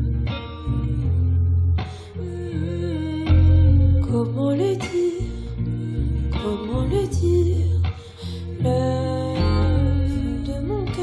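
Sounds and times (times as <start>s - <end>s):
bass guitar line: 0.0s - 11.0s
electric guitar plucked notes: 0.0s - 11.0s.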